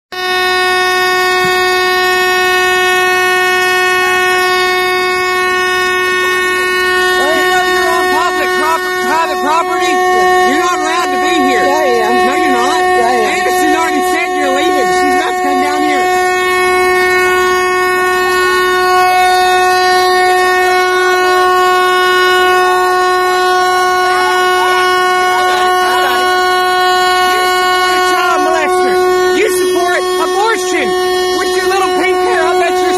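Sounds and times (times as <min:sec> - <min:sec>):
truck horn long blast: 0:00.1 - 0:32.9.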